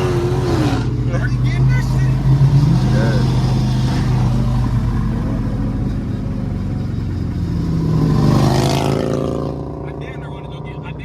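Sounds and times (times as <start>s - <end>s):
car engine and exhaust running: 0.0s - 11.0s.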